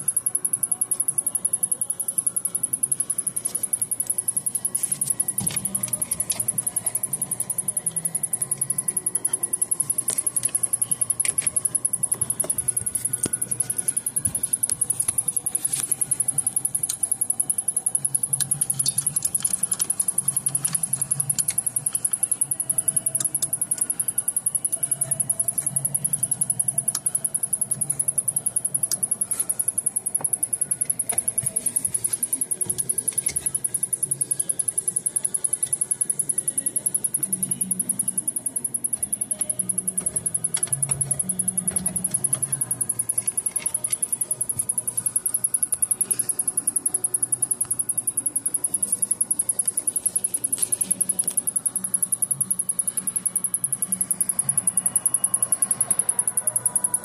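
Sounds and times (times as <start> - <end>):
fast high-pitched electrical ticking: 0.0 - 57.0.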